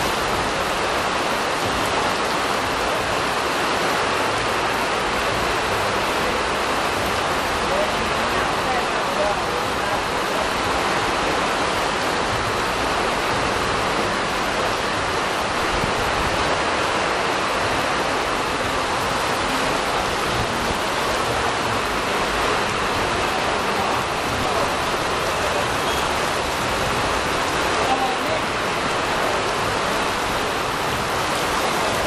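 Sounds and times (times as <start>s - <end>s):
heavy rain pouring: 0.0s - 32.0s
water running off roof: 0.0s - 32.0s.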